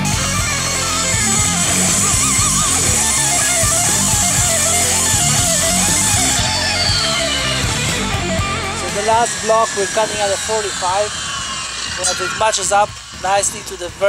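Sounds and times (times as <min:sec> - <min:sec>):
angle grinder cutting concrete: 0:00.0 - 0:14.0
grinder disc winding down whine: 0:00.0 - 0:14.0
rock music with electric guitar: 0:00.0 - 0:14.0.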